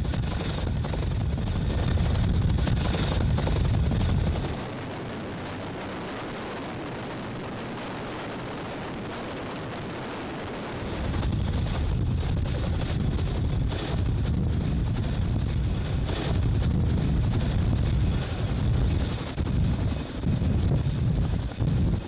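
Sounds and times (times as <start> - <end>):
helicopter rotor noise: 0.0 - 22.0
high turbine whine: 0.0 - 22.0.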